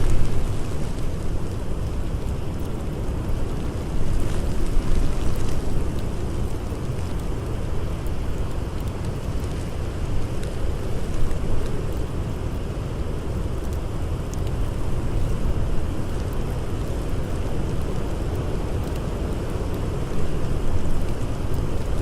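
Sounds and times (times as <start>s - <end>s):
campfire crackles: 0.0s - 22.0s
strong blizzard wind: 0.0s - 22.0s.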